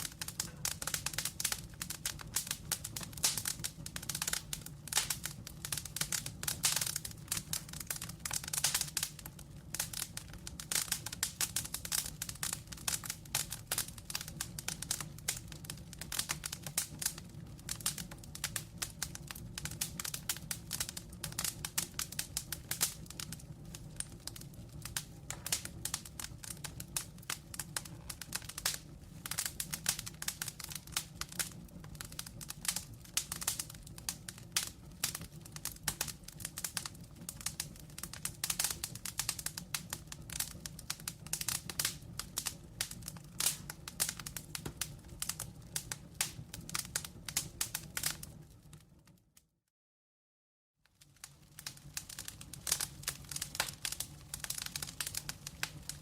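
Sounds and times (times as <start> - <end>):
burning logs crackling: 0.0 - 49.2, 51.0 - 56.0
low rumble of flame: 0.0 - 49.3, 50.9 - 56.0.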